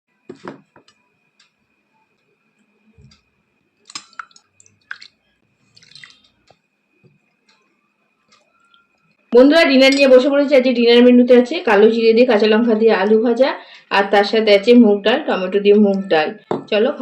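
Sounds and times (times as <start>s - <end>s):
faint high whine: 0.1s - 17.0s.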